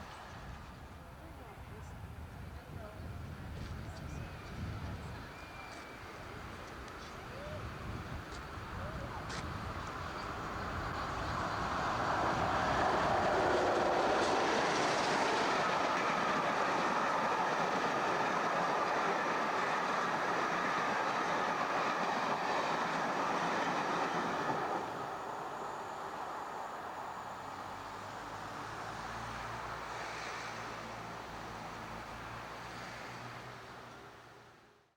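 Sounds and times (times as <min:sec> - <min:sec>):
diesel train passing: 0:00.0 - 0:34.9.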